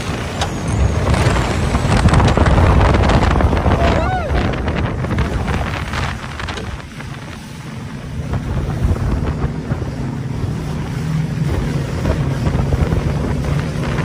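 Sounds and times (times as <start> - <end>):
motorboat engine running: 0.0 - 14.0
water rushing past hull: 0.0 - 14.0
wind buffeting microphone: 0.0 - 14.0.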